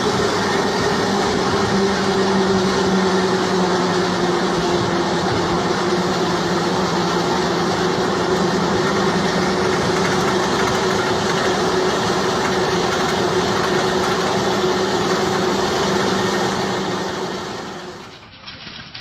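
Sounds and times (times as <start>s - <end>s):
helicopter engine running: 0.0s - 18.2s
steady hum: 0.0s - 18.2s.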